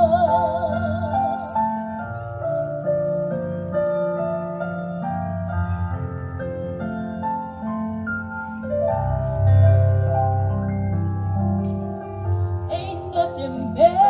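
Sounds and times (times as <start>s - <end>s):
electronic keyboard chords and melody: 0.0s - 14.0s.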